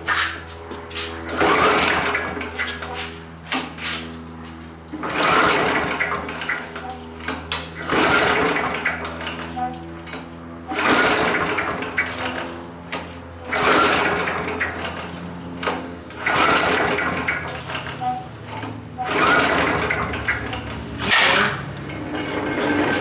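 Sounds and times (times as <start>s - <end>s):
low engine hum: 0.0s - 23.0s
lawn mower engine pull-starting: 0.1s - 23.0s.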